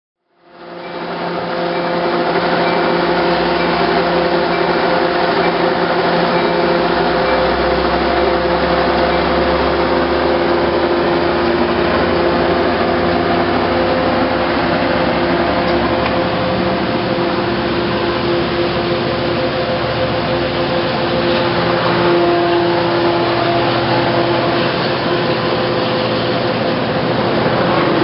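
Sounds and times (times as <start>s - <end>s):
diesel locomotive drone: 0.3s - 28.0s
humming tones: 0.4s - 28.0s
train coaches rolling past: 0.5s - 28.0s.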